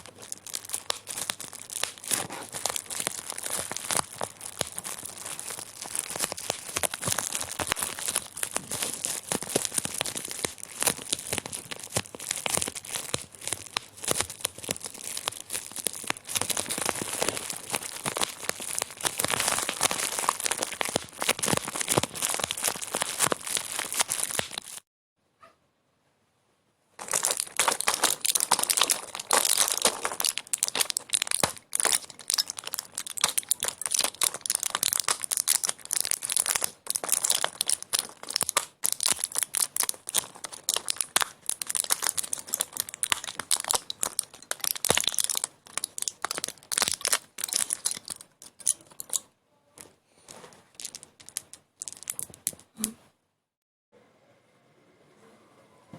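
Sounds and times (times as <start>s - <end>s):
material crinkling and crackling: 0.0s - 24.8s, 27.0s - 52.9s.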